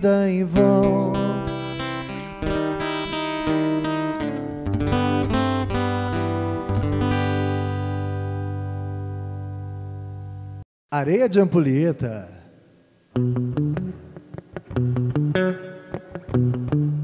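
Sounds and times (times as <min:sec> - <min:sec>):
acoustic guitar strumming chords: 0:00.2 - 0:10.6, 0:13.1 - 0:17.0.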